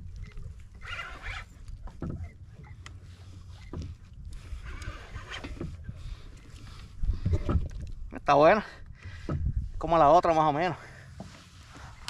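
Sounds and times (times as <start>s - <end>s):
wind rumbling on microphone: 0.0s - 10.7s
water lapping against kayak hull: 0.0s - 12.0s.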